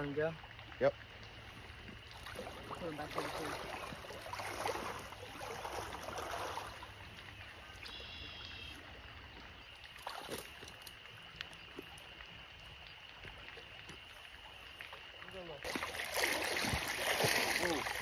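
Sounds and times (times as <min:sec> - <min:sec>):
faint creek flow: 0:00.0 - 0:18.0
boots splashing through water: 0:01.4 - 0:08.8, 0:09.8 - 0:18.0.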